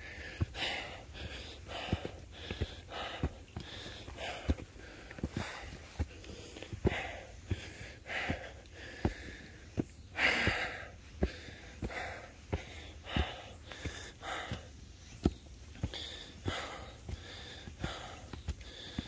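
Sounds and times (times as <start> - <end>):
footsteps on trail steps: 0.0 - 19.0
heavy rasping breathing: 0.0 - 19.0.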